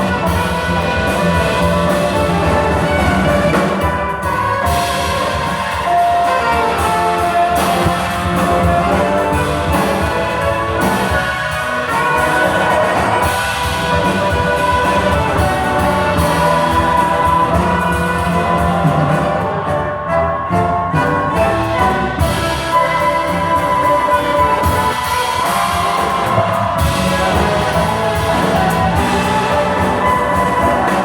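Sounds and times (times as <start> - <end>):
brass ensemble music: 0.0 - 31.0.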